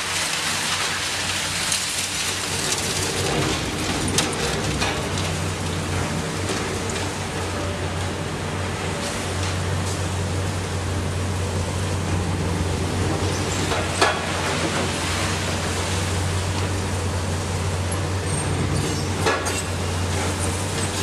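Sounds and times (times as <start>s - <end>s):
excavator diesel engines humming: 0.0s - 21.0s.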